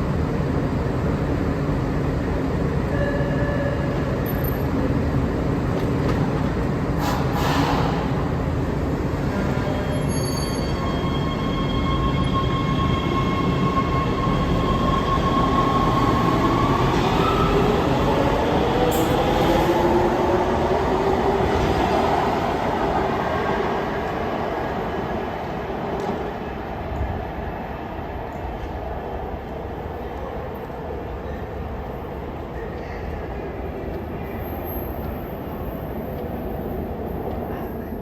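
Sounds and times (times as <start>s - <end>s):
subway train rumbling: 0.0s - 38.0s.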